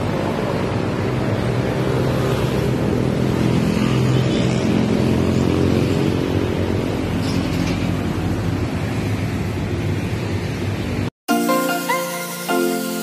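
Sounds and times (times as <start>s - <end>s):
heavy motorcycle traffic drone: 0.0s - 11.1s.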